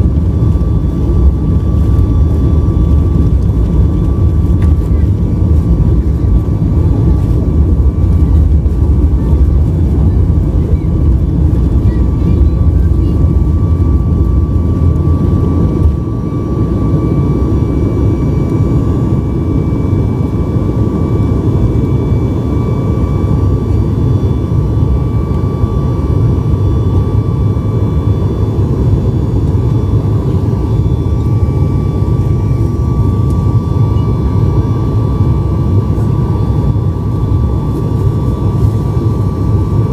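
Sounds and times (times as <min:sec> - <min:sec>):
jet engine cabin rumble: 0:00.0 - 0:39.9
thin steady whine: 0:00.0 - 0:39.9.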